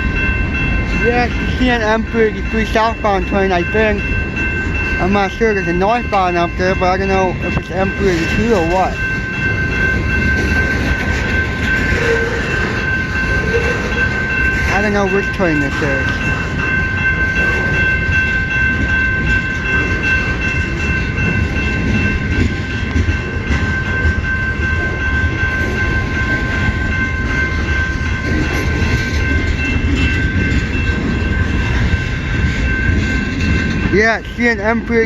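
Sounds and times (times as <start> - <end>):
freight train rumbling on rails: 0.0 - 35.0
steady high-pitched tones: 0.0 - 35.0.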